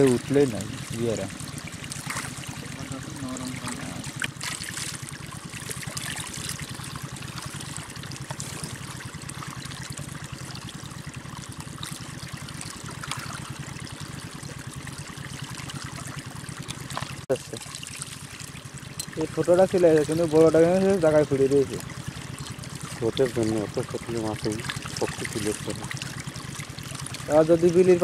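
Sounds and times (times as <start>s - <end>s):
shallow water trickling: 0.0s - 28.0s.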